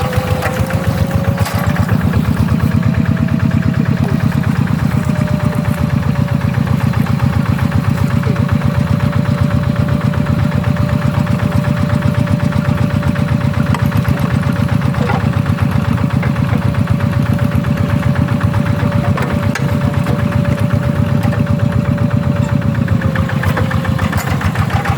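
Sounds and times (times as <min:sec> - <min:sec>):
diesel engine chugging: 0:00.0 - 0:24.9.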